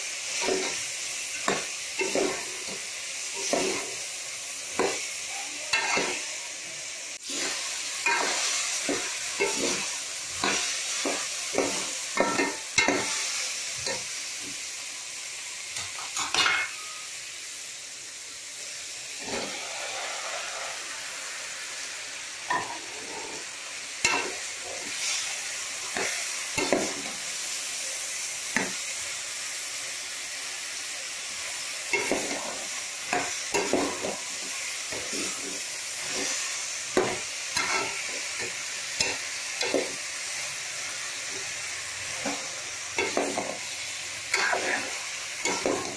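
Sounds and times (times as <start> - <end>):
vegetables sizzling in hot oil: 0.0 - 45.9.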